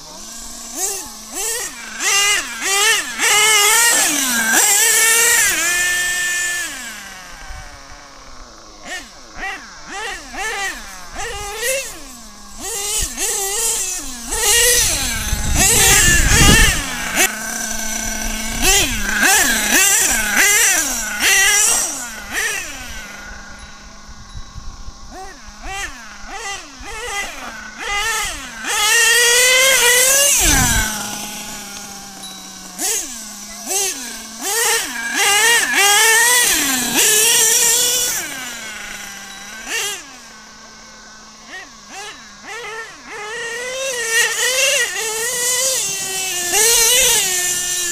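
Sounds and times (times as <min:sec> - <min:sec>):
nitro engine revving: 0:00.0 - 0:47.9.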